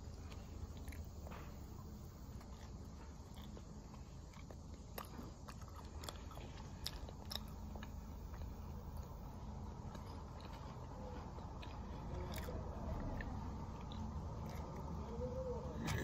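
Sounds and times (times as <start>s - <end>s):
low background rumble: 0.0s - 16.0s
person chewing toasted food: 0.0s - 16.0s.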